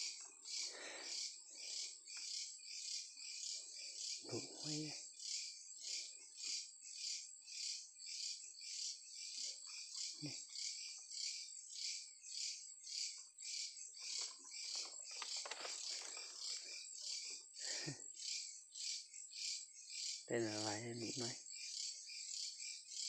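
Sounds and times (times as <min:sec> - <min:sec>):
night insects pulsing chorus: 0:00.0 - 0:23.0.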